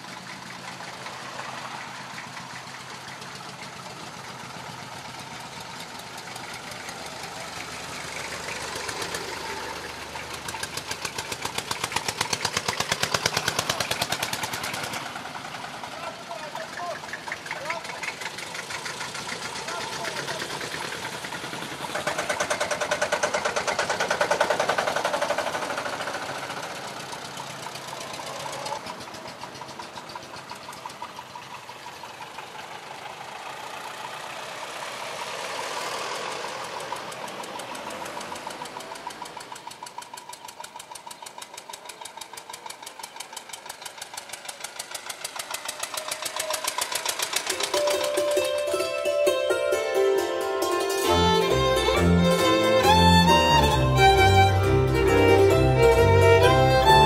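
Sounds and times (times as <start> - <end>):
tractor engines chugging: 0.0 - 57.0.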